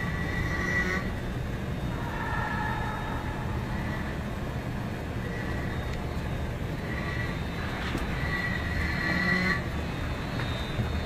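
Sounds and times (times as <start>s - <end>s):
high-pitched train whine: 0.0s - 11.0s
train rumble: 0.0s - 11.0s.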